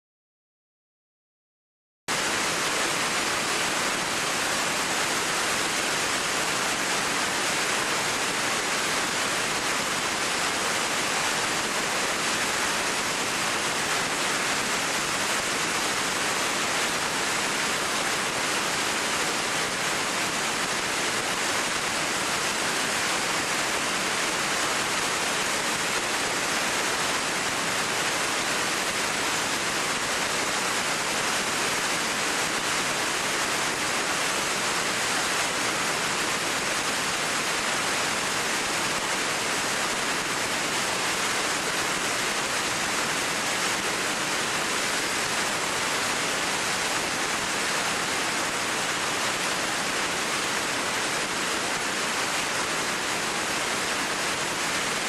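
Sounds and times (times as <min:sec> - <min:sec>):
waterfall rushing: 0:02.1 - 0:55.0.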